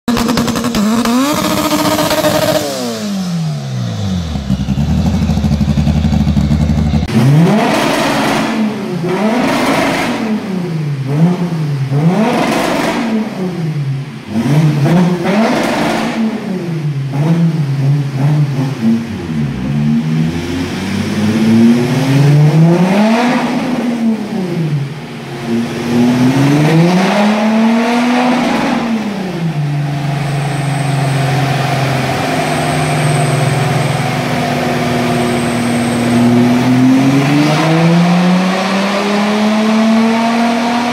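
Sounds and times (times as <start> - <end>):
diesel engine revving: 0.1 - 13.5, 14.2 - 40.9.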